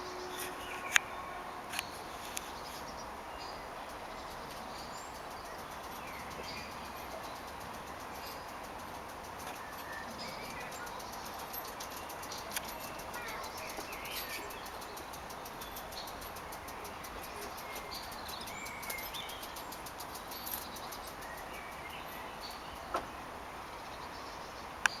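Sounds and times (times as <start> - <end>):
small birds chirping: 0.0 - 25.0
steady outdoor hiss: 0.0 - 25.0.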